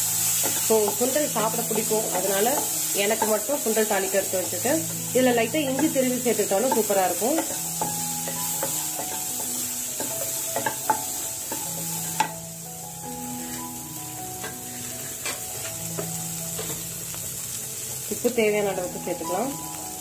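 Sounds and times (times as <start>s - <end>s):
soft background music: 0.0s - 20.0s
steady sizzling: 0.0s - 20.0s.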